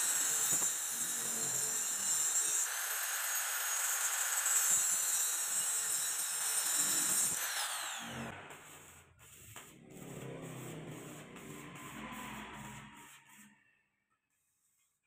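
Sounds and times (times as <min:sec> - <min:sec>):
angle grinder cutting steel: 0:00.0 - 0:13.6.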